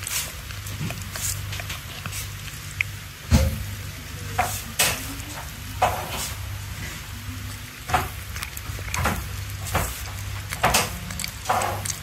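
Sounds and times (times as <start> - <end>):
monkey chewing crackly: 0.0 - 3.9, 4.7 - 12.0.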